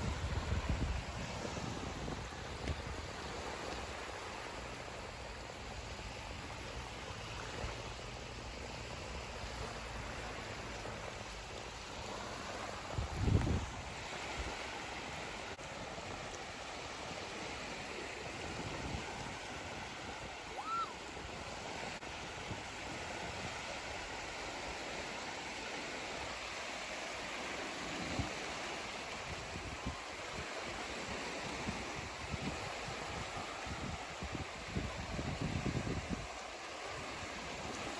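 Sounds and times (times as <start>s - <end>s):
sea surf washing ashore: 0.0s - 37.9s.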